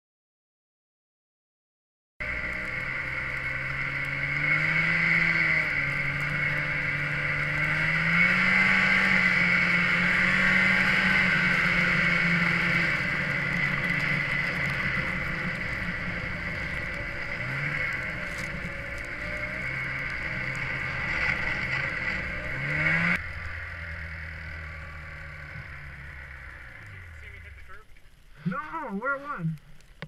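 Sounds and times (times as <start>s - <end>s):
vehicle engine revving: 2.2s - 28.8s.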